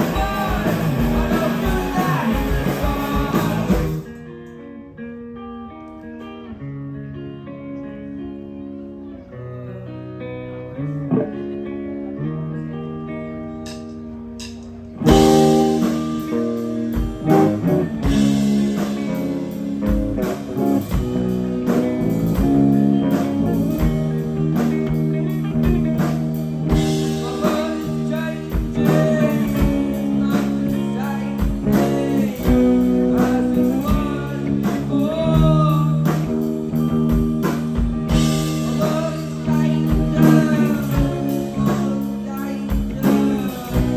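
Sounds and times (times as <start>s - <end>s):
rock band playing loudly: 0.0s - 4.7s, 5.3s - 43.9s
electric guitar playing quietly: 0.0s - 43.9s.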